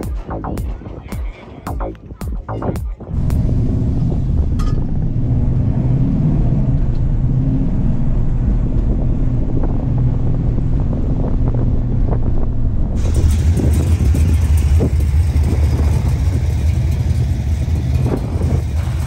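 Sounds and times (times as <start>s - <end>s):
car engine running steadily: 0.0s - 19.0s.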